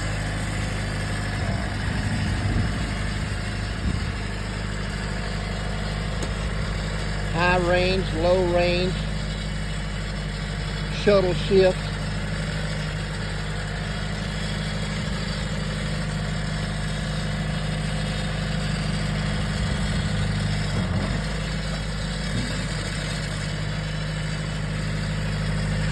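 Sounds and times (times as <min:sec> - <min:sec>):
tractor engine idling: 0:00.0 - 0:25.9.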